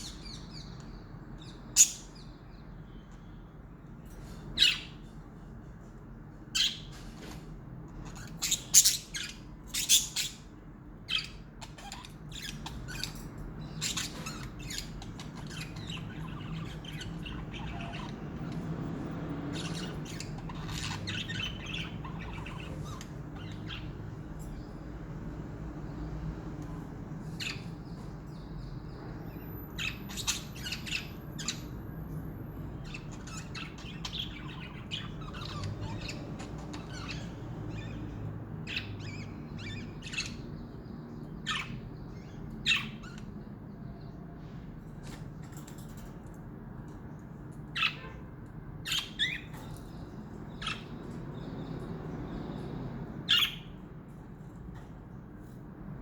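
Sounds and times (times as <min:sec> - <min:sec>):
budgerigars chirping and squawking: 0:00.0 - 0:56.0
low background hum: 0:00.0 - 0:56.0.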